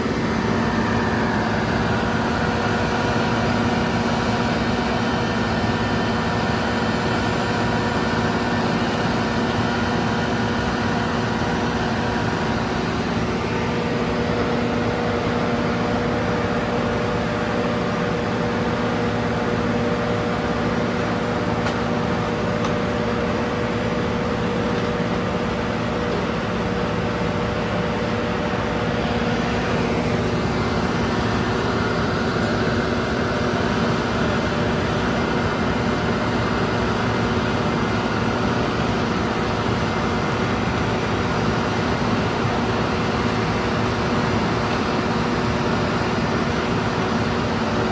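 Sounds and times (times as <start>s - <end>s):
diesel engine and machinery drone: 0.0s - 47.9s.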